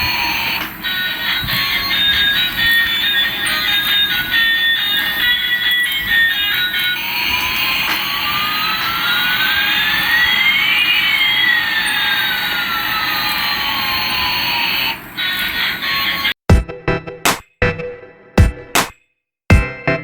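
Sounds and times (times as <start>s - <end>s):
jet engine hiss with shifting tones: 0.0s - 16.3s.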